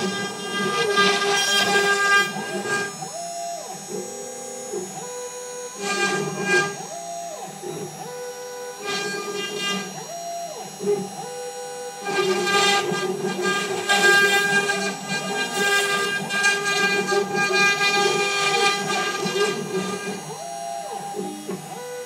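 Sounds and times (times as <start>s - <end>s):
router bit cutting wood: 0.0s - 22.0s
stepper motors whining: 0.0s - 22.0s.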